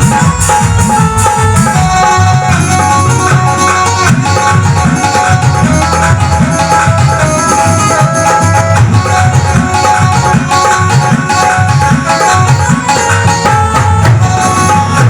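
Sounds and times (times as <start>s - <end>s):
hand drum beat: 0.0s - 15.0s
sustained melody line: 0.0s - 15.0s.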